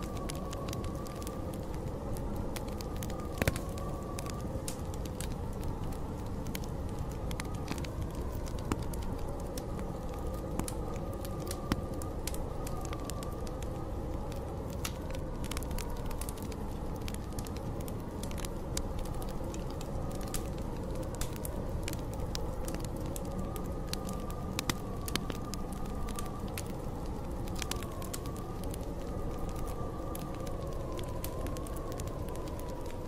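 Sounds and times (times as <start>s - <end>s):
storm wind howling: 0.0s - 33.0s
wood fire crackling and popping: 0.0s - 33.0s.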